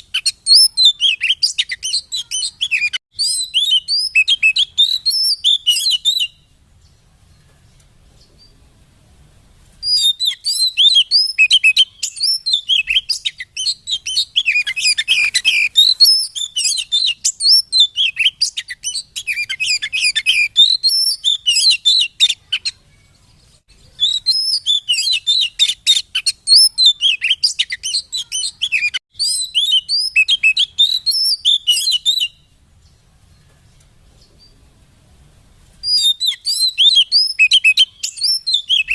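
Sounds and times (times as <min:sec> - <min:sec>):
bird singing chirps and whistles: 0:00.0 - 0:07.0, 0:09.8 - 0:33.0, 0:35.8 - 0:38.9.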